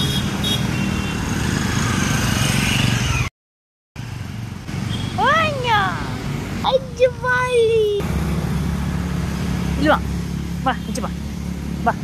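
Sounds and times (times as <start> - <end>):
street traffic noise: 0.0 - 3.3, 4.0 - 12.0.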